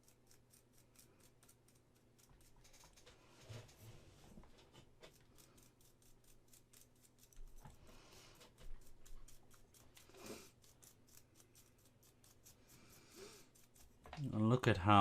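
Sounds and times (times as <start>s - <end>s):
small hard parts clicking: 0.0s - 3.8s, 4.5s - 14.2s.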